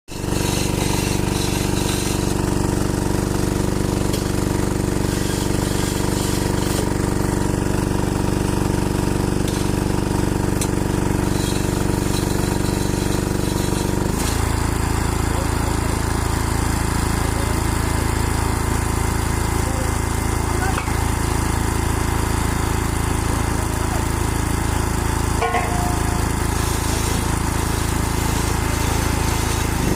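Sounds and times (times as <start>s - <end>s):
engine running steadily: 0.1s - 29.9s.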